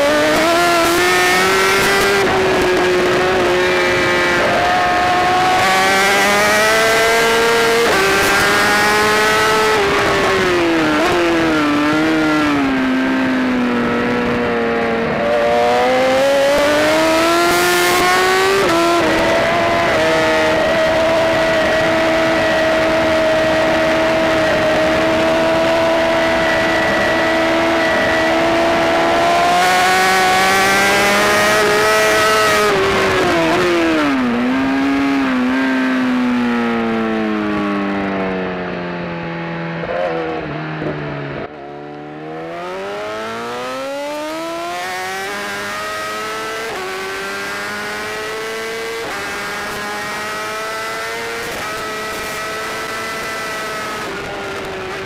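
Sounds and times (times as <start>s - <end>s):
motorcycle engine revving: 0.0s - 55.0s
rushing wind: 0.0s - 55.0s.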